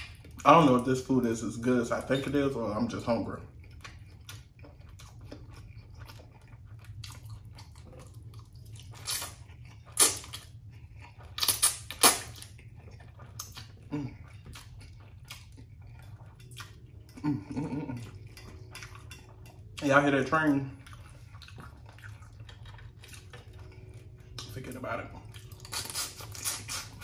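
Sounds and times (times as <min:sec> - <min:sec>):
low steady rumble: 0:00.0 - 0:27.0
man chewing: 0:00.0 - 0:27.0.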